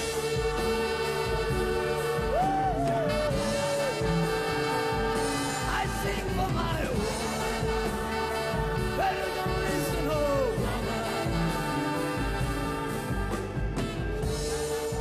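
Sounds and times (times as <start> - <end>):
live pop band playing: 0.0 - 15.0.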